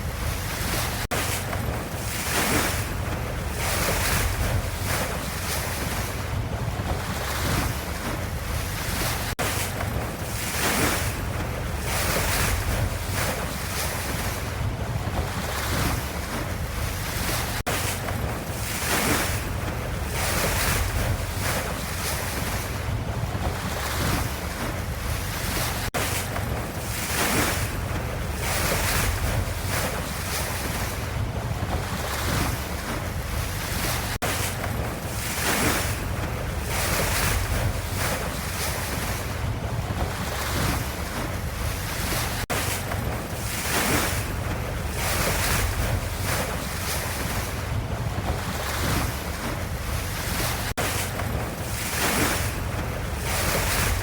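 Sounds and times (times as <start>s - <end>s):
ocean waves surf: 0.0s - 54.0s.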